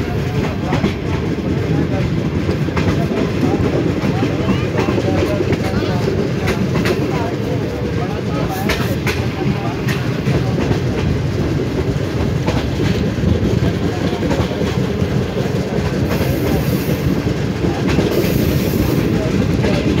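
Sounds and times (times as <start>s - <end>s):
train wheels rumbling on rail: 0.0s - 20.0s
wheels clacking over rail joints: 0.0s - 20.0s.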